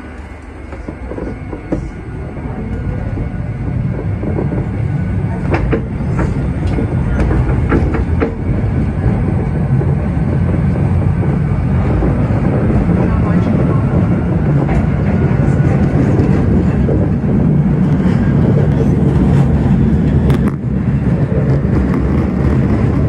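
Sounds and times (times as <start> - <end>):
subway train rumbling on rails: 0.0 - 23.0.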